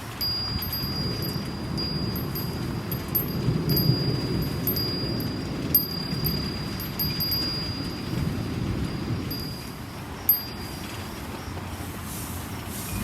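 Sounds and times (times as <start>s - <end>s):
wind chime ringing: 0.0s - 11.3s
steady rain: 0.0s - 13.0s.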